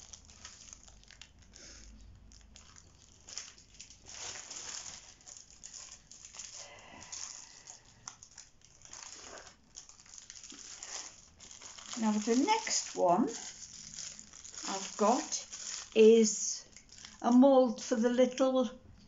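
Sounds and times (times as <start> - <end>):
plastic bags and paper crinkling: 0.0 - 18.7.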